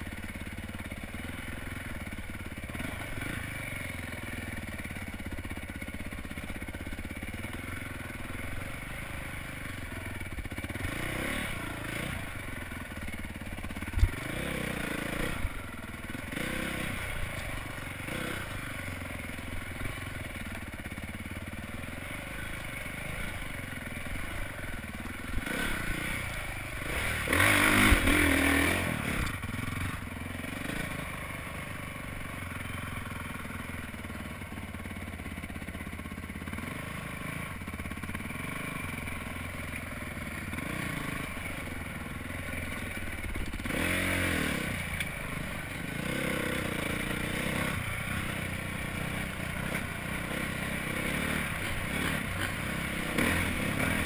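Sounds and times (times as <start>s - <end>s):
dirt bike engine revving: 0.0s - 34.0s, 35.2s - 54.0s.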